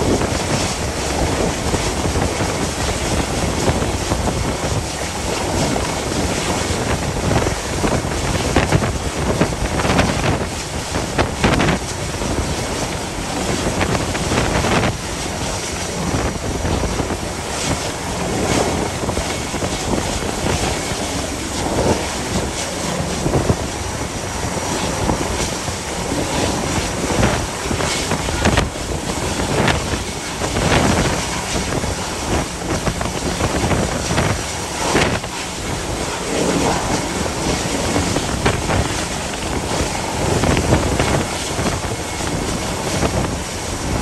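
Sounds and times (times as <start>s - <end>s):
sea rushing: 0.0s - 44.0s
wind buffeting microphone: 0.0s - 44.0s.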